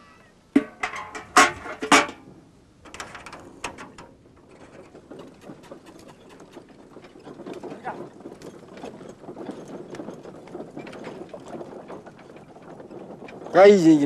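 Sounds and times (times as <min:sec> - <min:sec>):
metal buckets clanking: 0:00.6 - 0:14.0.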